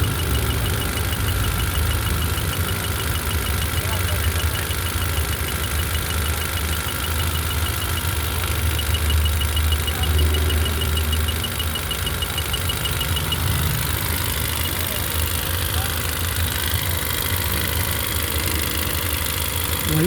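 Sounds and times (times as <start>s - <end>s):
car engine idling unevenly: 0.0s - 20.0s.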